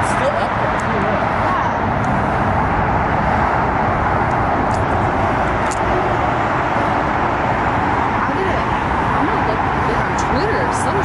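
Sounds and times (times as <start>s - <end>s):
city traffic roar: 0.0s - 11.0s.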